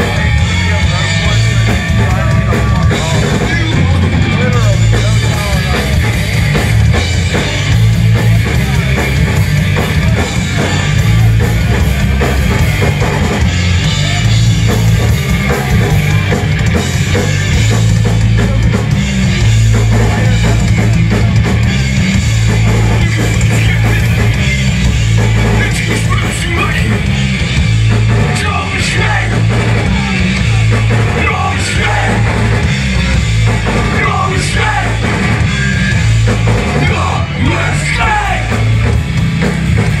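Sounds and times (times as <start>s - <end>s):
punk band playing live: 0.0s - 40.0s.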